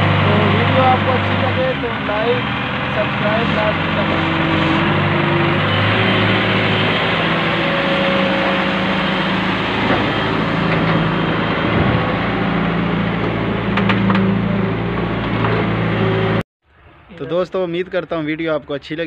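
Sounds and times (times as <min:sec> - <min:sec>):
excavator diesel engine running: 0:00.0 - 0:16.4.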